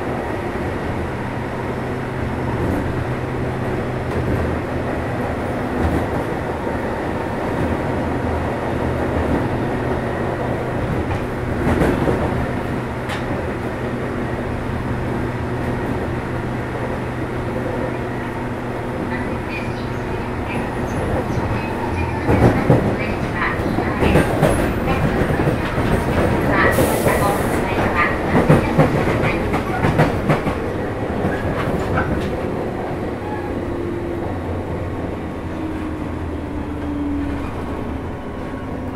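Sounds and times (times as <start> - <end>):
wheels rumbling on rail: 0.0 - 38.9.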